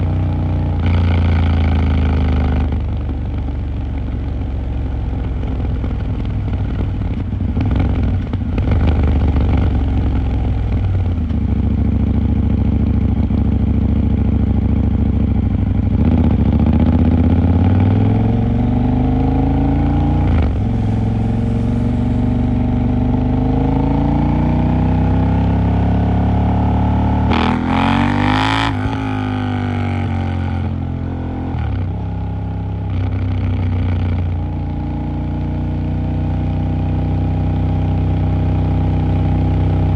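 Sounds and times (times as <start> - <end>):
motorcycle engine revving: 0.0 - 3.5, 5.4 - 39.9.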